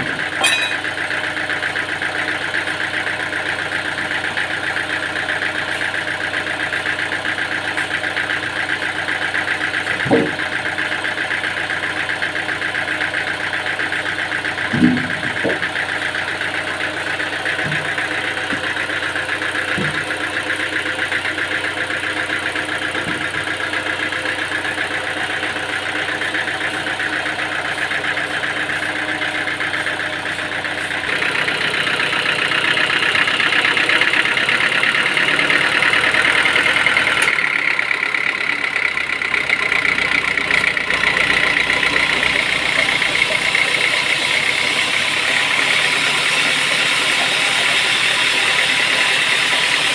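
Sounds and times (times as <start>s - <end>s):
sawmill machinery whine and hum: 0.0s - 49.9s.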